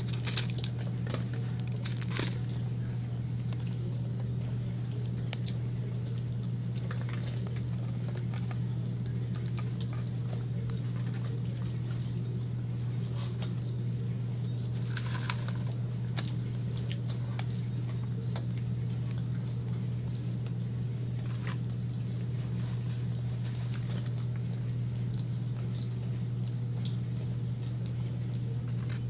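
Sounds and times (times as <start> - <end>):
person chewing fries: 0.0 - 29.0
steady low hum: 0.0 - 29.0.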